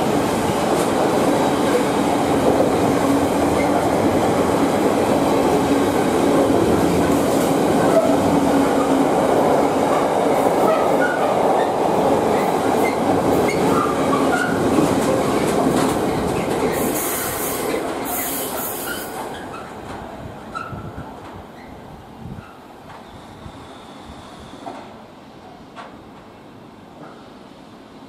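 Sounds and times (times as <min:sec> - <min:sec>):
train wheels rumbling on rails: 0:00.0 - 0:27.8.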